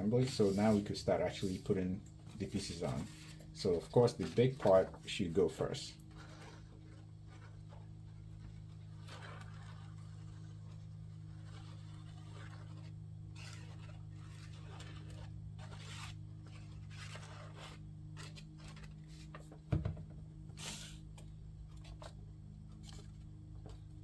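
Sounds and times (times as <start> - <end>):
paper rustling and scraping: 0.0 - 19.7, 20.4 - 24.0
steady low hum: 0.0 - 24.0.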